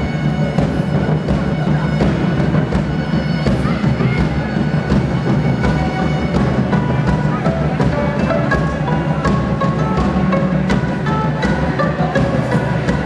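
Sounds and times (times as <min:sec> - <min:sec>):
bowed violins: 0:00.0 - 0:13.0
drum kit beat: 0:00.0 - 0:13.0
live rock band playing: 0:00.0 - 0:13.0
strummed guitars: 0:00.0 - 0:13.0.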